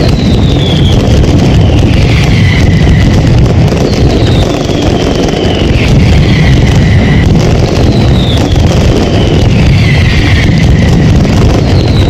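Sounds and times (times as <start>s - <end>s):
firecracker barrage rumble: 0.0s - 12.0s
whistling fireworks: 0.0s - 12.0s.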